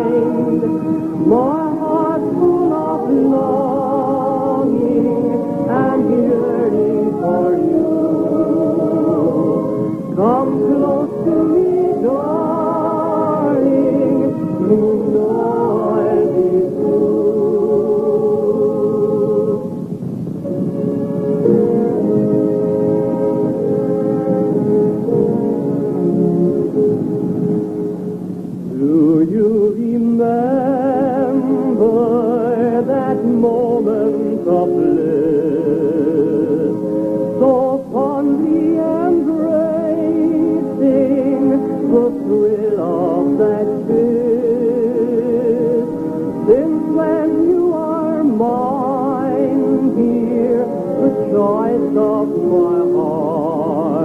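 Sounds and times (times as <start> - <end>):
person singing with vibrato: 0.0 - 20.2, 28.5 - 54.0
held instrumental chords: 0.0 - 54.0
sustained accompaniment: 0.0 - 54.0.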